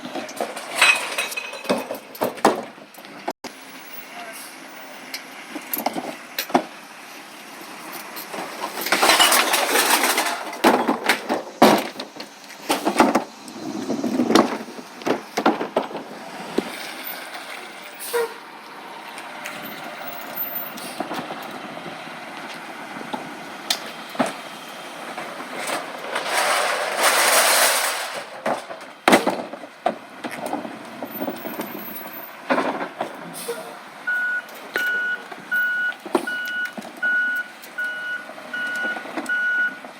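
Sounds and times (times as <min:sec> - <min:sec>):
recycling truck clanks and knocks: 0:00.0 - 0:03.4, 0:05.2 - 0:07.0, 0:07.6 - 0:18.5, 0:19.2 - 0:39.9.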